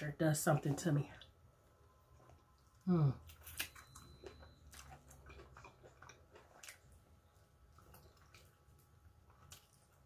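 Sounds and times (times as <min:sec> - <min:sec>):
person chewing: 0:00.5 - 0:10.0.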